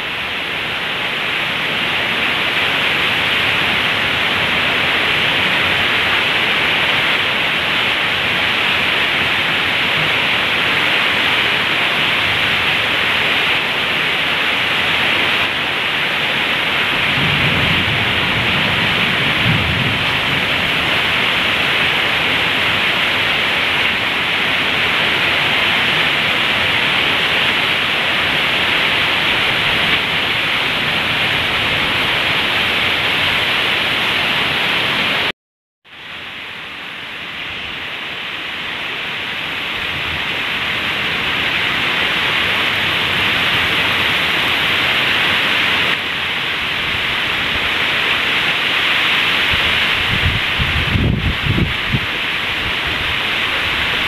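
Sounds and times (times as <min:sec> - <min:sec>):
heavy rain: 0:00.0 - 0:35.3, 0:35.9 - 0:54.0.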